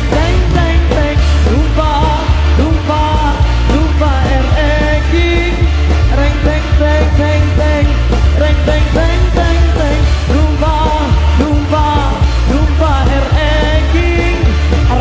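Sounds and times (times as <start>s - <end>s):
live band playing pop-rock: 0.0s - 15.0s.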